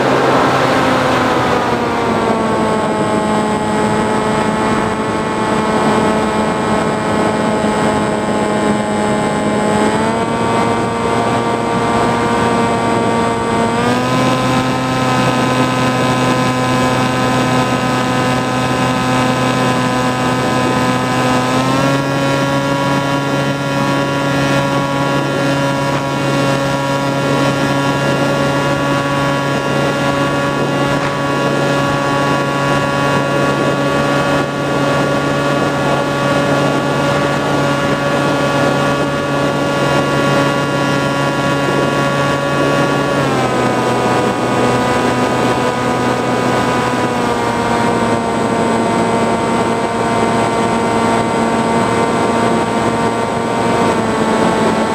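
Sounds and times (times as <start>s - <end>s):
drone motor and propeller: 0.0s - 54.9s.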